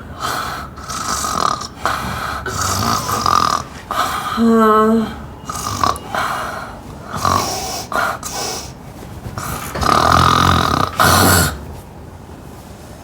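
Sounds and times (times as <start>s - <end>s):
person snoring and snorting: 0.2s - 8.7s, 9.4s - 11.6s.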